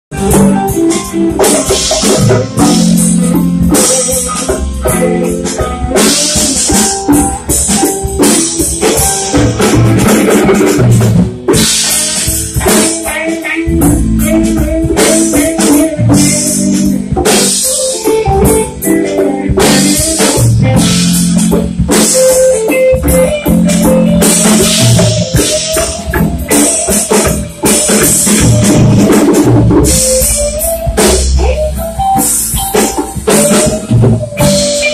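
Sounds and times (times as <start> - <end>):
drum kit steady beat: 0.1 - 34.9
electric bass: 0.1 - 34.9
electric guitars: 0.1 - 34.9.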